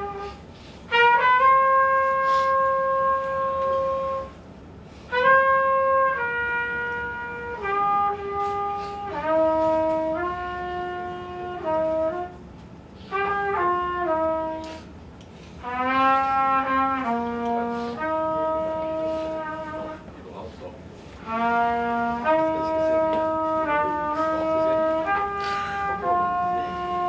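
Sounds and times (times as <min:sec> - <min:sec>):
wind instrument slow melody: 0:00.0 - 0:20.4, 0:21.2 - 0:27.0.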